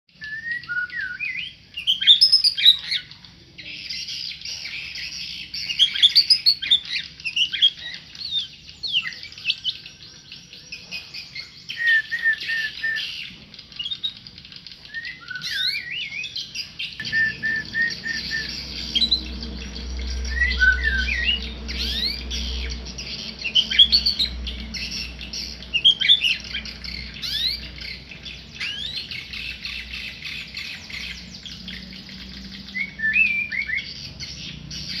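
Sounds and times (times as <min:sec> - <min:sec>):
songbird singing whistles: 0:00.1 - 0:35.0.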